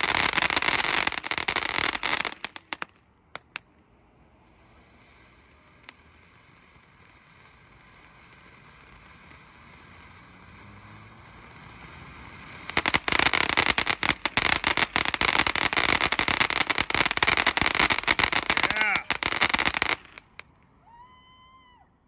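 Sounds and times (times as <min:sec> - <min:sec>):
firework hissing and crackling: 0:00.0 - 0:20.6.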